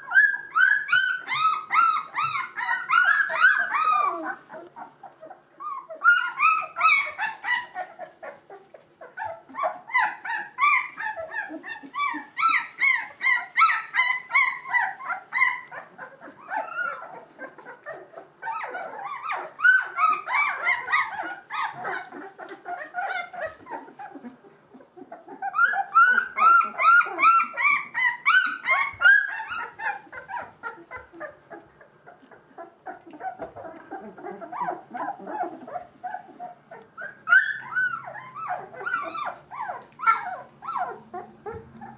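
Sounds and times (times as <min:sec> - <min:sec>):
puppies whimpering and squeaking: 0:00.0 - 0:41.9.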